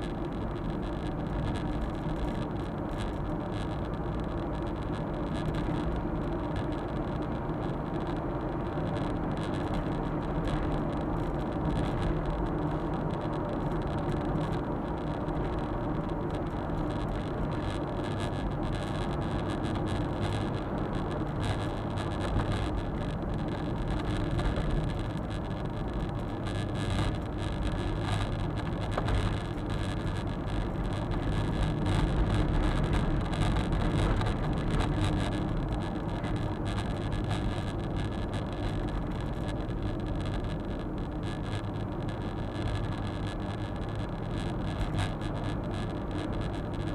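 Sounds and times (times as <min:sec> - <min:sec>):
road and tyre noise: 0:00.0 - 0:46.9.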